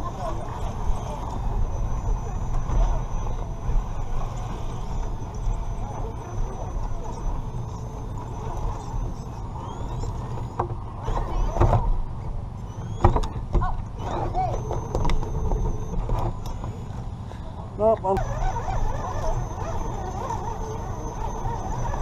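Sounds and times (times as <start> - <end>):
toy car motor rumbling: 0.0 - 17.3, 18.2 - 22.0.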